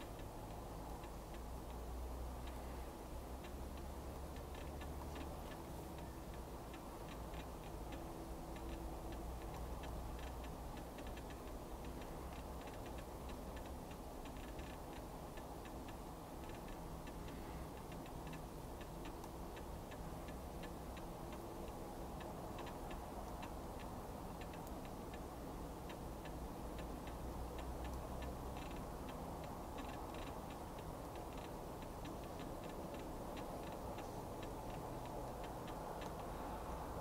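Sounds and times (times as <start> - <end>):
faint ticking: 0.0 - 37.0.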